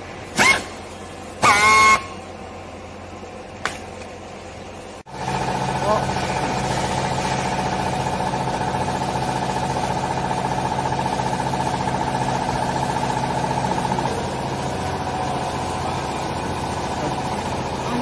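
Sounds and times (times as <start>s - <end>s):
hydraulic motor and pump hum: 0.0s - 18.0s.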